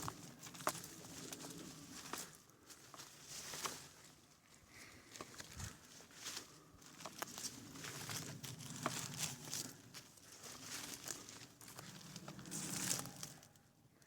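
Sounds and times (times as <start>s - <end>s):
dry leaves crunching underfoot: 0.0s - 13.6s.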